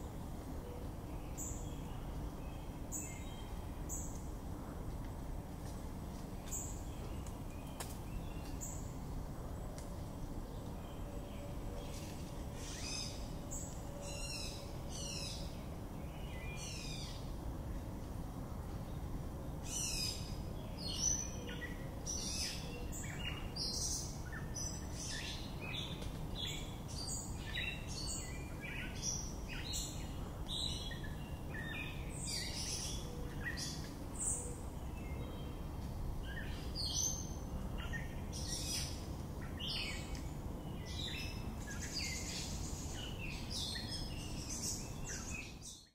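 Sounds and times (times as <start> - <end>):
songbird singing: 0.0 - 4.6, 6.1 - 18.0, 18.6 - 45.9.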